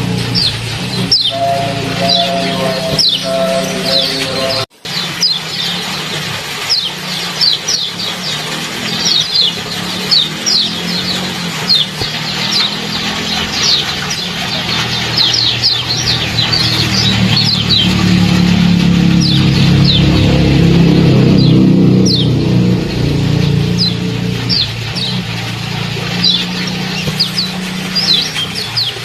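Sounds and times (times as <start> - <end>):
low hum: 0.0 - 4.7, 8.0 - 28.8
songbirds chirping: 0.0 - 5.8, 6.6 - 29.0.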